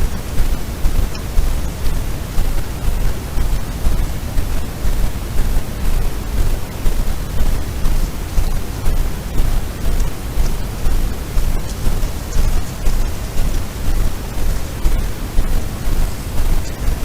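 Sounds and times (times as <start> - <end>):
rushing noise with low rumble: 0.0 - 17.0.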